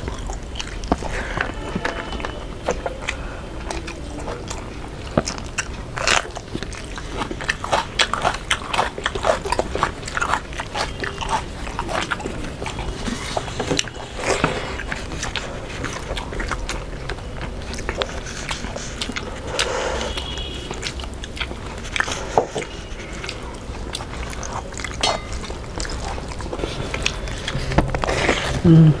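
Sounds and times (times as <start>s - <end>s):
people chewing and smacking: 0.0s - 29.0s.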